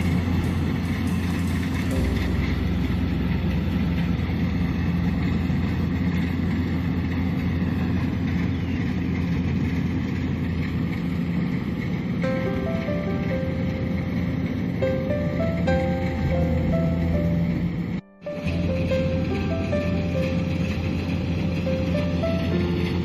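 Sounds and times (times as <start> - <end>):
combine harvester diesel engine running: 0.0 - 23.0.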